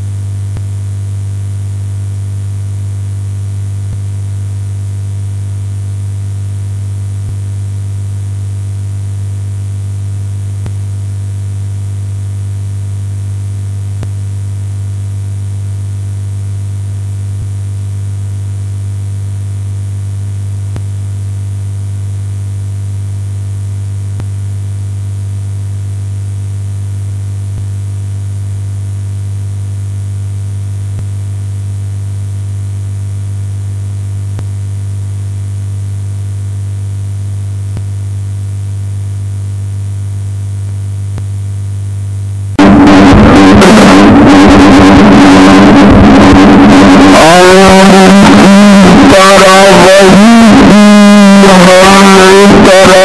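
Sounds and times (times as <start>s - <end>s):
low hum with static hiss: 0.0s - 53.0s.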